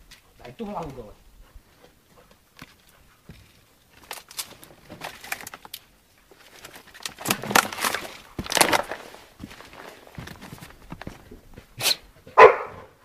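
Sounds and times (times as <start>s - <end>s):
footsteps on brick rubble: 0.0s - 12.8s.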